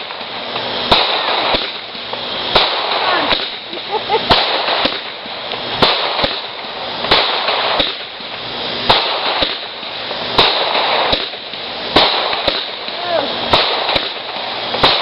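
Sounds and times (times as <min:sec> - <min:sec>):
crackling firework bursts: 0:00.0 - 0:15.0
firework bangs: 0:00.0 - 0:15.0.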